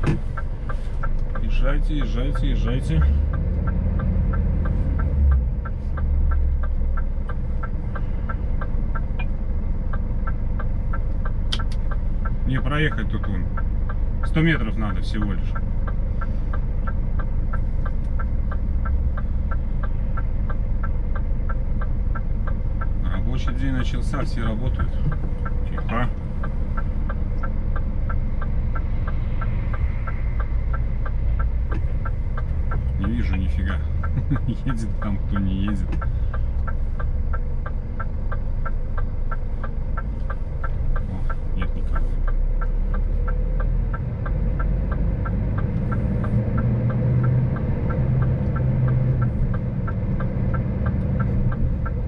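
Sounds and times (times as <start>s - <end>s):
light even ticking: 0.0s - 52.0s
truck engine low rumble: 0.0s - 52.0s.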